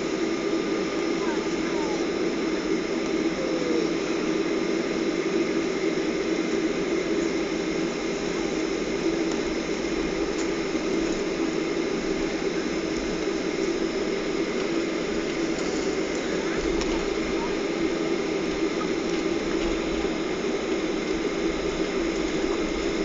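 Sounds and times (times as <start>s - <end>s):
air-conditioning rush: 0.0s - 23.0s
constant low hum: 0.0s - 23.0s
jet engines idling: 0.0s - 23.0s.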